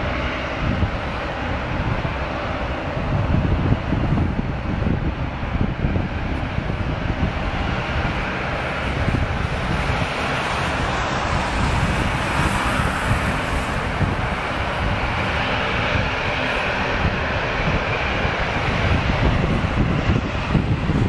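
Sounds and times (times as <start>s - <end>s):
turboprop engines running: 0.0s - 21.0s.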